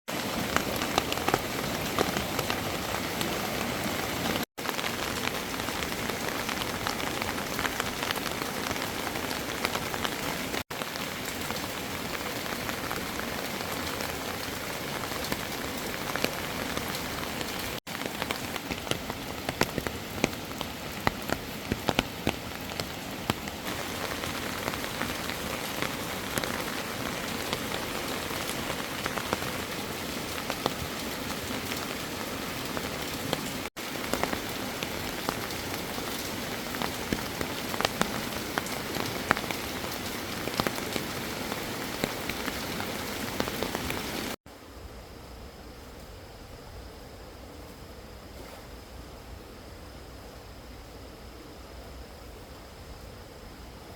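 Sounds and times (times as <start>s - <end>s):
heavy rain on hard surface: 0.1s - 44.4s.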